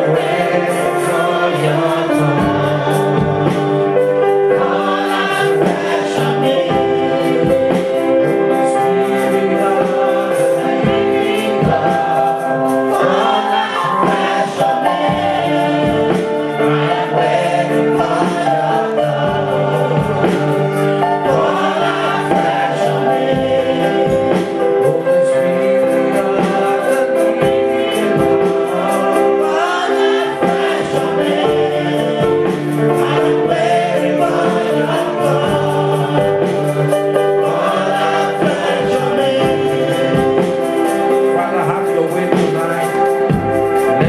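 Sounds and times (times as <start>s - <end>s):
congregation singing a worship chorus: 0.0s - 44.0s
sustained instrumental accompaniment: 0.0s - 44.0s.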